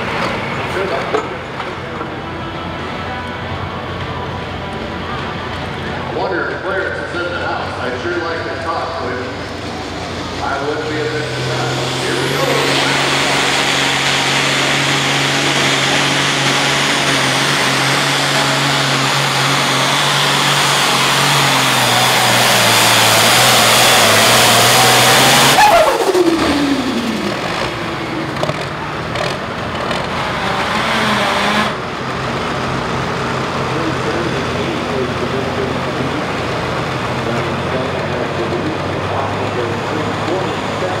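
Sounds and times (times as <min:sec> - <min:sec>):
falling whine: 0:00.0 - 0:41.0
tractor engine under load: 0:00.0 - 0:41.0.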